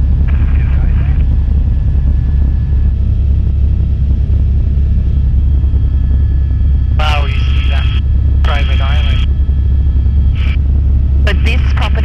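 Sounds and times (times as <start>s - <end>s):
helicopter cabin rumble: 0.0s - 12.0s.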